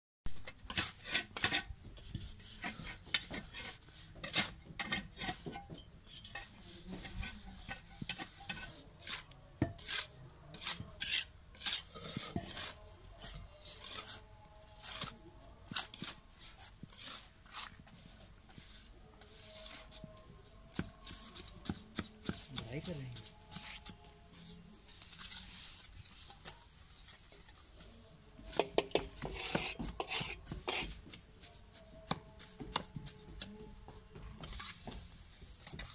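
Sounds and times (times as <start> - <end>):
trowel scraping concrete mix: 0.4 - 20.1, 20.7 - 33.5, 34.4 - 35.9.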